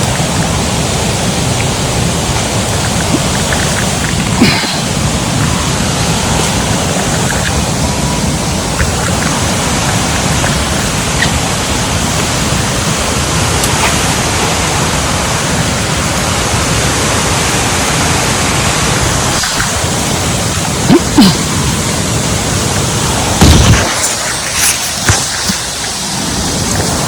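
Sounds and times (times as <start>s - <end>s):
cascading water rushing: 0.0s - 27.0s.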